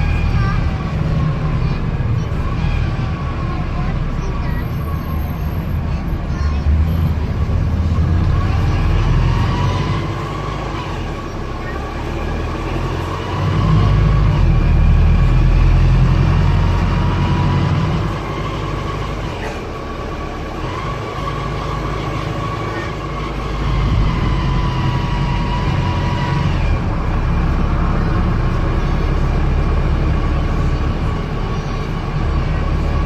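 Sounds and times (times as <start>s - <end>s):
bus diesel engine: 0.0s - 33.0s.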